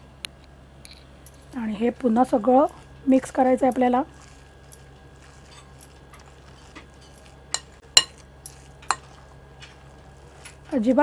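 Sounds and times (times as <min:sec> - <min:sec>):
spoon stirring thick batter: 0:02.0 - 0:11.0.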